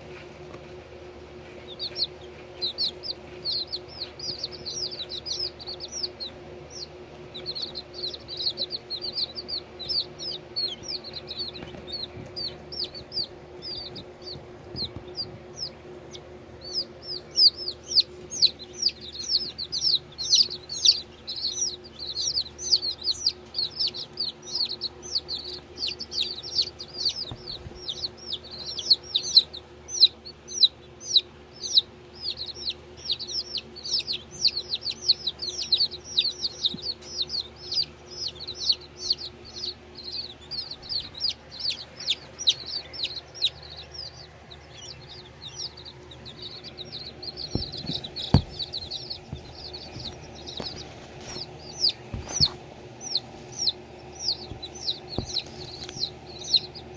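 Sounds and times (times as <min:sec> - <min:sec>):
baby chicks peeping: 0:00.0 - 0:56.9
steady low hum: 0:00.0 - 0:56.9.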